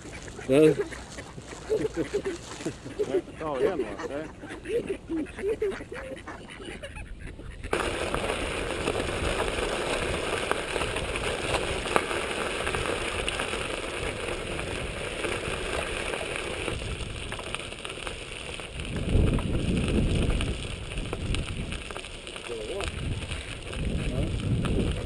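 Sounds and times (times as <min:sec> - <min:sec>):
crunching on gravel path: 0:00.0 - 0:04.3, 0:07.7 - 0:25.0.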